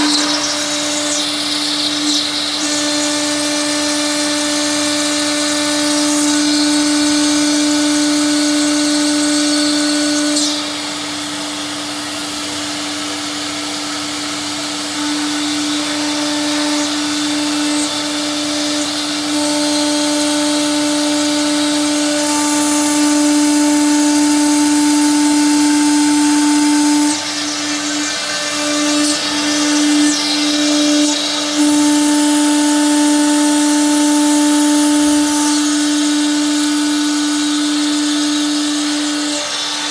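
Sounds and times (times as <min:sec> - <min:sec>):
grinding hiss of stone cutting: 0:00.0 - 0:39.9
saw blade spindle whine: 0:00.0 - 0:39.9.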